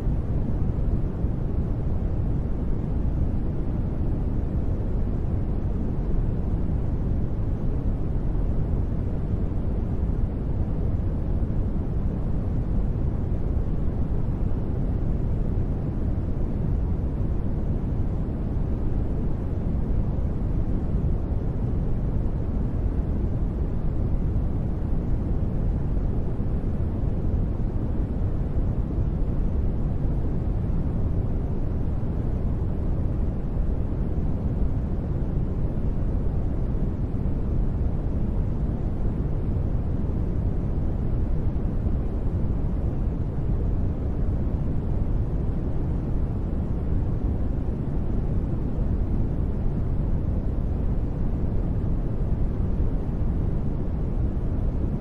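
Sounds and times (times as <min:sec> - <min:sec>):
deep muffled steady noise: 0:00.0 - 0:55.0.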